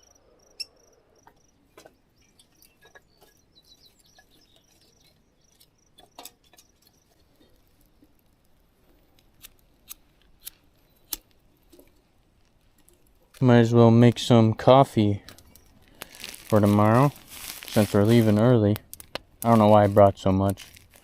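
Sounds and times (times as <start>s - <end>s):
campfire wood snapping: 1.2s - 14.2s, 15.2s - 21.0s.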